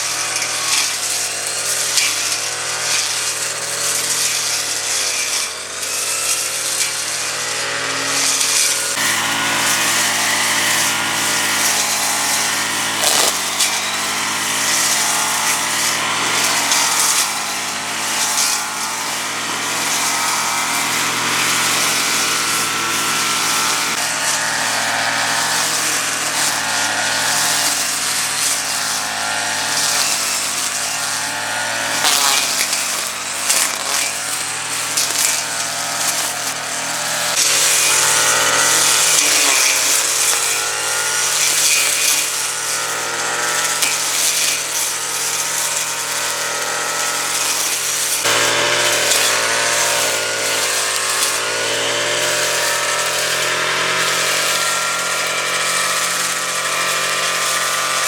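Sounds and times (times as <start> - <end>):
motorised power tool running: 0.0 - 58.0.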